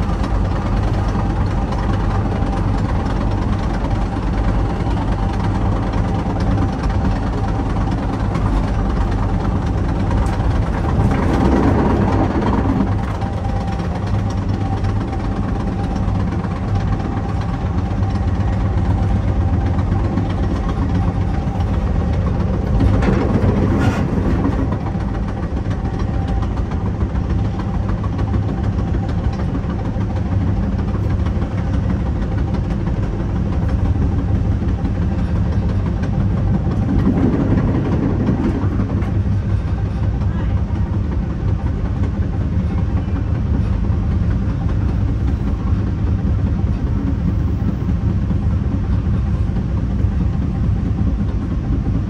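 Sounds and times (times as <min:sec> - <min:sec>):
low engine drone: 0:00.0 - 0:52.0
train wheels rumbling on rail: 0:00.0 - 0:52.0.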